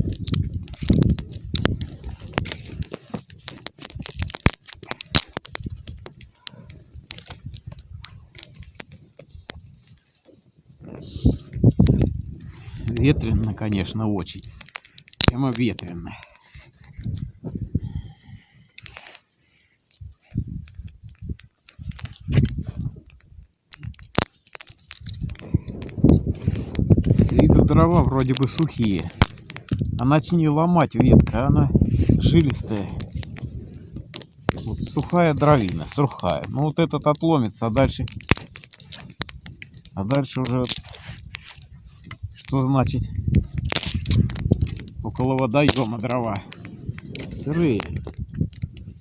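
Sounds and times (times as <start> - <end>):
wind buffeting microphone: 0.0 - 14.6, 15.2 - 18.7, 20.0 - 24.2, 24.8 - 49.0
campfire twigs crackling: 0.0 - 49.0.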